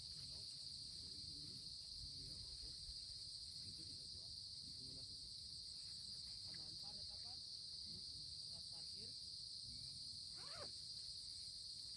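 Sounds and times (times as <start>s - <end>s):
crickets chirring: 0.0s - 11.9s.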